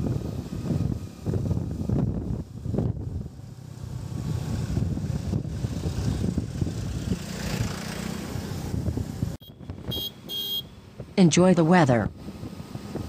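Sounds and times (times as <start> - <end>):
wind buffeting microphone: 0.0 - 11.2, 12.0 - 13.0
traffic noise: 0.0 - 13.0
vehicle engine: 0.0 - 13.0.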